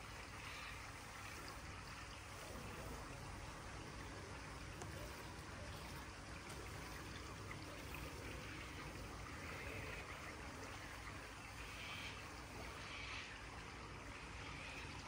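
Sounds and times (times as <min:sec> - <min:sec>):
faint outdoor background hiss: 0:00.0 - 0:15.0.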